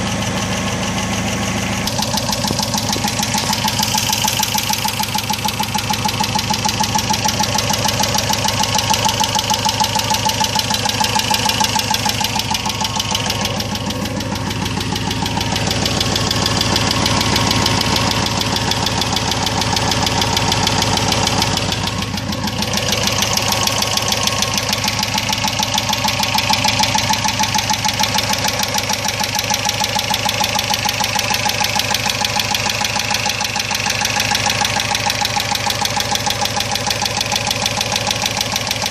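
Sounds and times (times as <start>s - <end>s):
car engine knocking: 0.0s - 38.9s.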